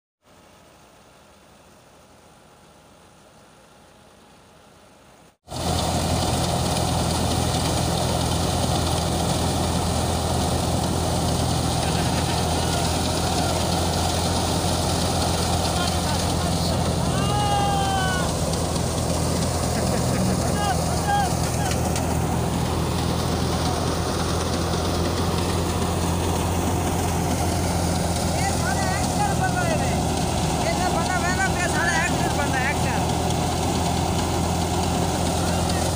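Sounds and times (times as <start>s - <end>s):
threshing machine running: 5.5s - 35.9s.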